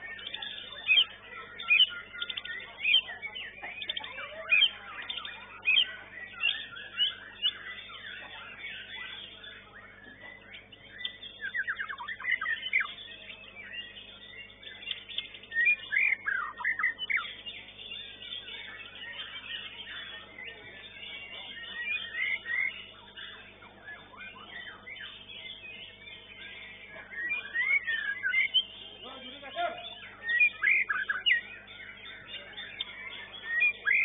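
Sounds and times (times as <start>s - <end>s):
bird whistling song: 0.0s - 34.0s.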